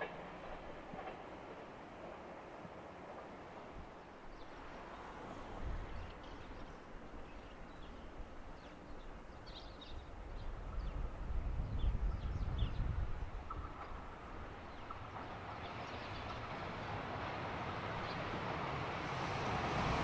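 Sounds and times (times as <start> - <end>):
steady outdoor noise: 0.0 - 20.0.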